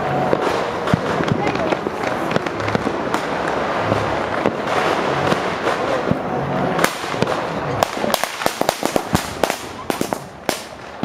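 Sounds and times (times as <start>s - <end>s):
firecrackers crackling and banging: 0.0s - 11.0s.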